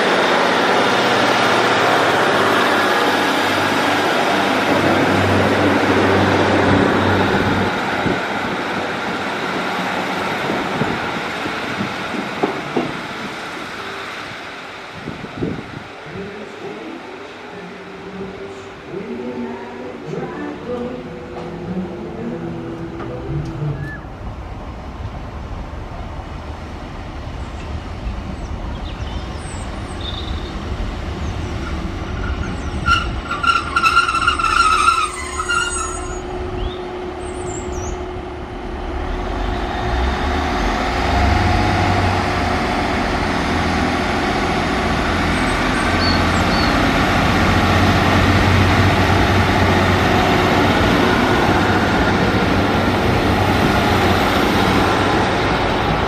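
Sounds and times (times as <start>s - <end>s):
train rumble and wheel noise: 0.0s - 56.0s.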